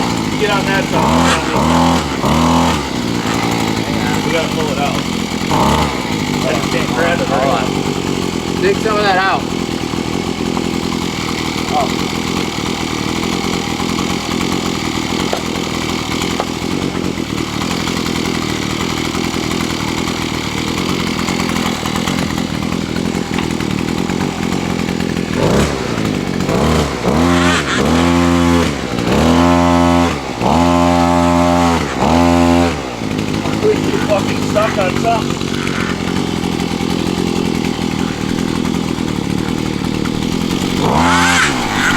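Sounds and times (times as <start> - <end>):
post-hole auger engine revving: 0.0 - 41.9.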